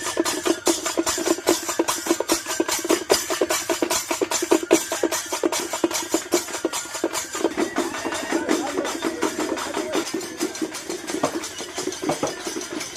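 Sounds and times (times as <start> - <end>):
fast drumming: 0.0 - 12.9.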